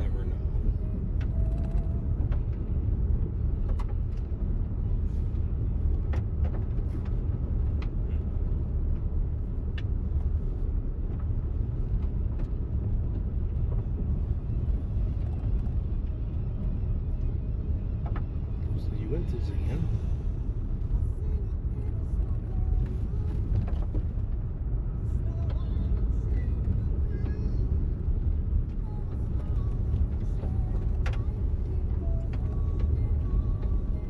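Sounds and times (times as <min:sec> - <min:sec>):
car tyres and engine rumble: 0:00.0 - 0:34.0
light ticks and rattles: 0:00.0 - 0:34.0.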